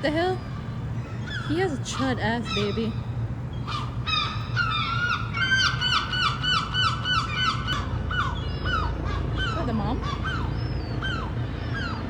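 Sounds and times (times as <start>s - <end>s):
gull calling harshly: 0.0s - 12.0s.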